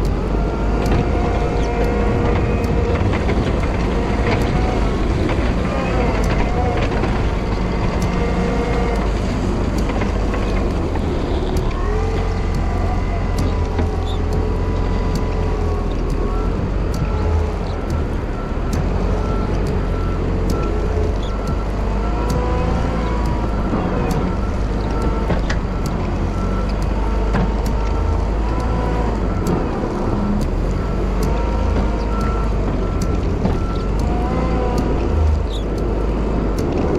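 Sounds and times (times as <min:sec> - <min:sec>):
sharp ticks: 0:00.0 - 0:36.9
wheel loader engine running: 0:00.0 - 0:36.9.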